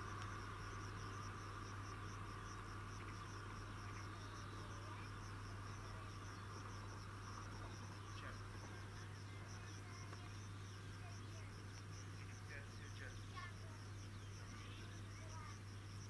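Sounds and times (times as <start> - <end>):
faint low hum: 0.0 - 16.0
insects chirping: 0.0 - 16.0.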